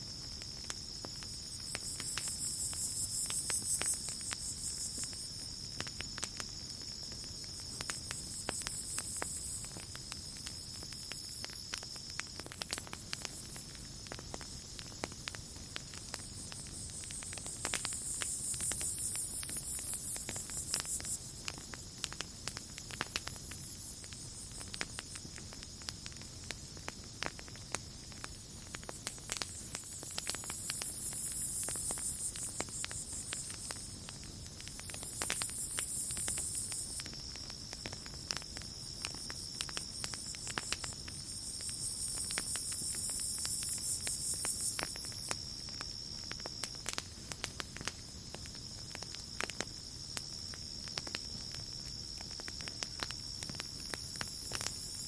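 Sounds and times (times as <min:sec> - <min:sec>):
campfire crackling and popping: 0:00.0 - 0:55.0
night insects trilling: 0:00.0 - 0:55.0.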